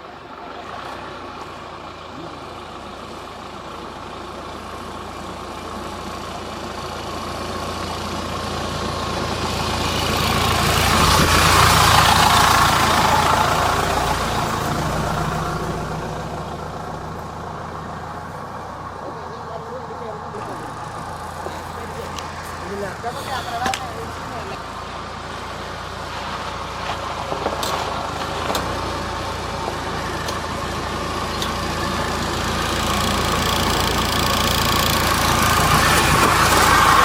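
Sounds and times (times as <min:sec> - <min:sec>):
off-road vehicle engine: 0:00.0 - 0:37.0.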